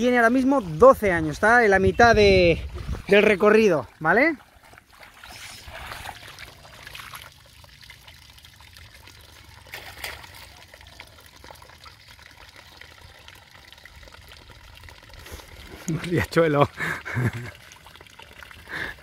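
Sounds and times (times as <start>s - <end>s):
liquid stream splashing: 0.0s - 19.0s.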